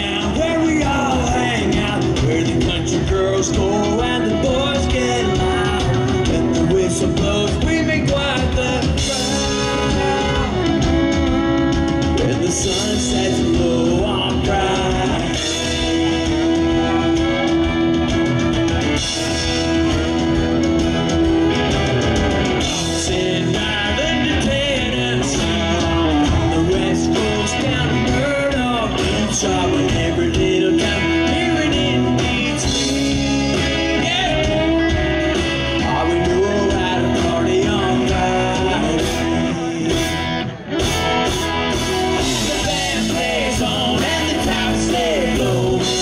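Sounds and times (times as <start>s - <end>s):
person singing: 0.0s - 21.5s, 22.5s - 46.0s
drums: 0.0s - 46.0s
guitars: 0.0s - 46.0s.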